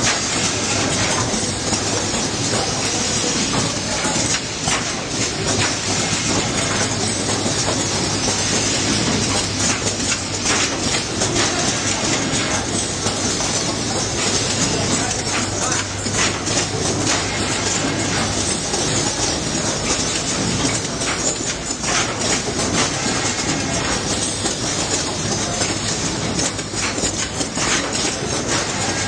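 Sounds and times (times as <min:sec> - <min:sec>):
machinery clatter: 0:00.0 - 0:29.0
sharp mechanical clacks: 0:00.0 - 0:29.0.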